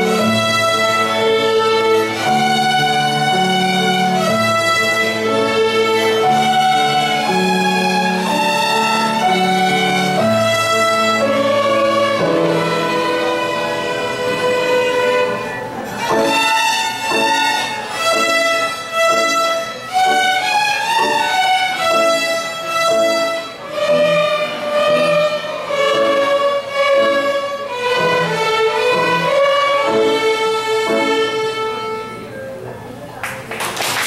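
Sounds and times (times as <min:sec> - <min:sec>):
violin ensemble playing: 0:00.0 - 0:32.7.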